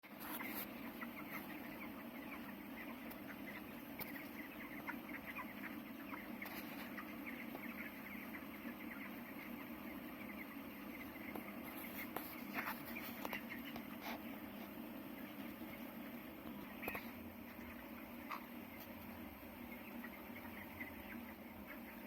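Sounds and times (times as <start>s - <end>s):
steady low hum: 0.0s - 22.0s
chickens chirping and clucking: 0.1s - 22.0s.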